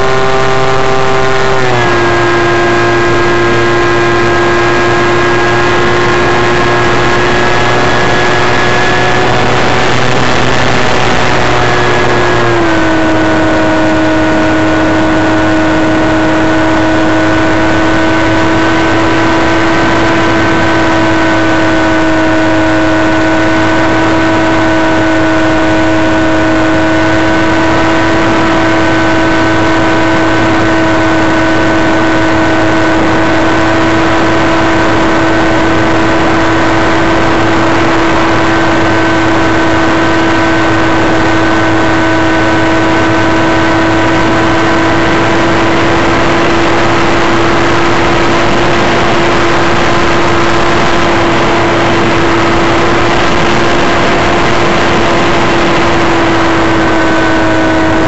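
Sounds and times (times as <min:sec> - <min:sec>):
model glider motor whine: 0:00.0 - 0:58.0.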